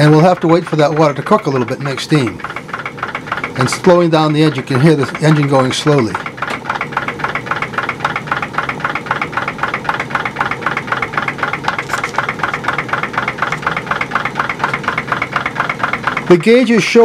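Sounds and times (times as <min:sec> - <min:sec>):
steam engine chuffing: 0:00.0 - 0:17.0.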